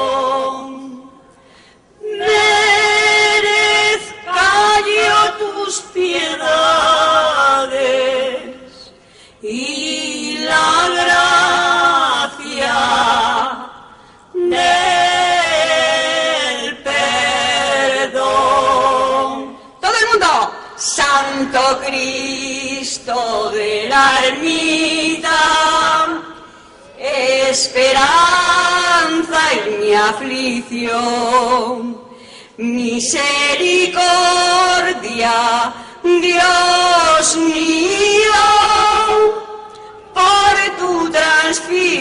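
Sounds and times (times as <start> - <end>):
choir singing a hymn: 0.0 - 1.1, 2.0 - 19.8, 20.8 - 42.0.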